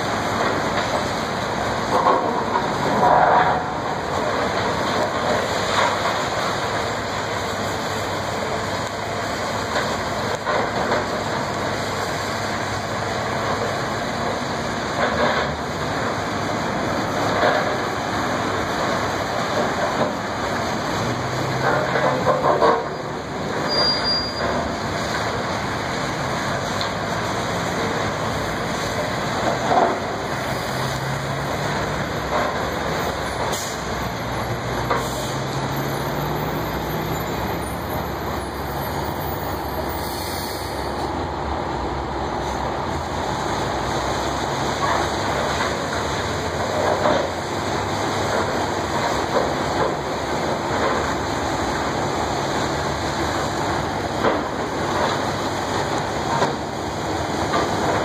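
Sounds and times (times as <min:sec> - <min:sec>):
steady rushing noise: 0:00.0 - 0:23.7, 0:24.4 - 0:58.0.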